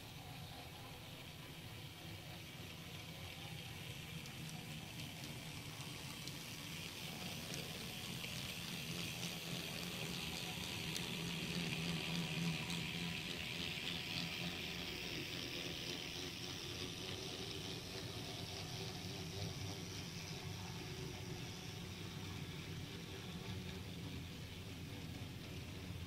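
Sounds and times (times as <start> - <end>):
low electric motor hum: 0.0 - 26.0
model train wheels rushing on rails: 0.0 - 26.0.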